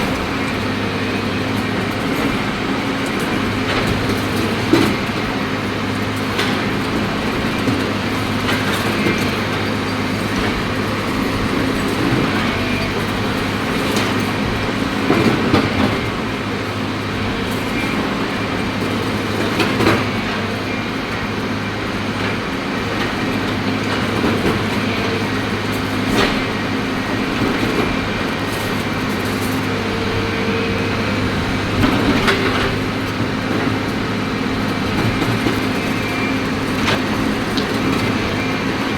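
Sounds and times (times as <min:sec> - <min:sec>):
excavator diesel engine: 0:00.0 - 0:38.9.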